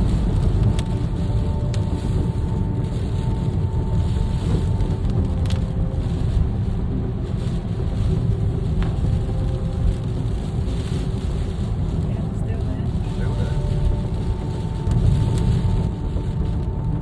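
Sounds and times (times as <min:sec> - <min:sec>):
road rumble and tyre noise: 0:00.0 - 0:17.0.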